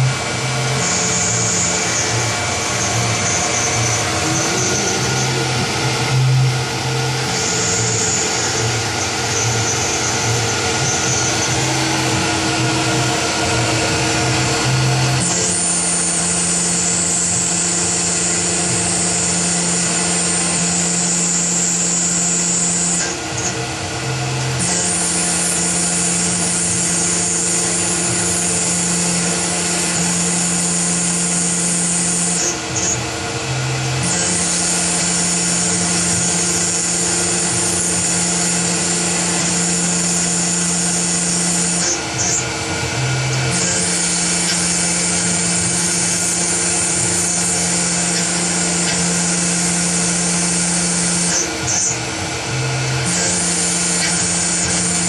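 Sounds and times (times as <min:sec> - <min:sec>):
cnc machine milling metal: 0:00.0 - 0:55.0.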